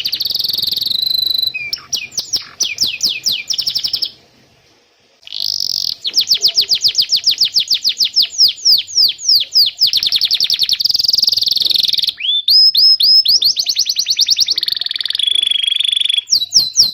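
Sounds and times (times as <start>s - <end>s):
canary singing trills: 0.0s - 4.4s, 5.2s - 16.9s.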